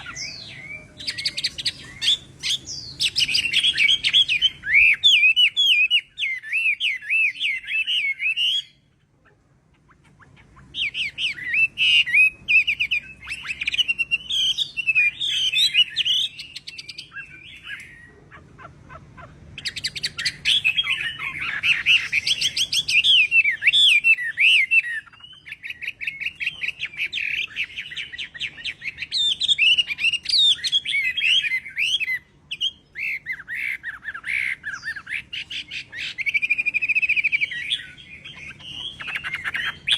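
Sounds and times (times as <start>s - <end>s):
bird singing whistled phrases: 0.0s - 8.8s, 10.8s - 18.1s, 19.6s - 39.9s.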